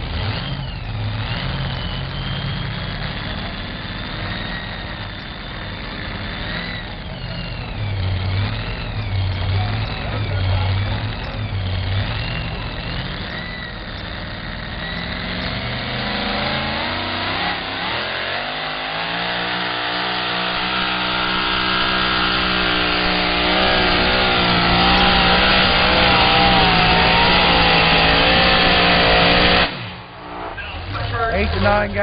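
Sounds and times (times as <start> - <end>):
engine revving at full throttle: 0.0 - 32.0.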